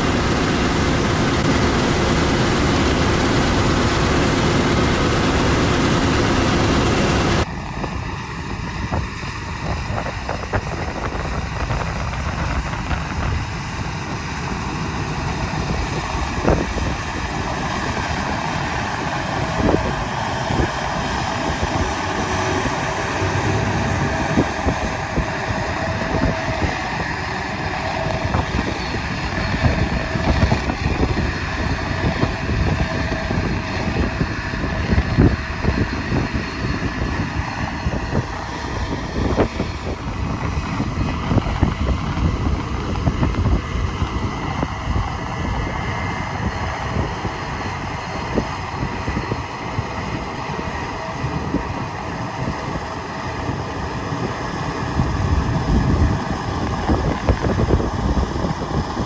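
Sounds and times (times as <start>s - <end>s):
harvest machinery running: 0.0s - 59.0s
wind buffeting microphone: 0.0s - 59.0s.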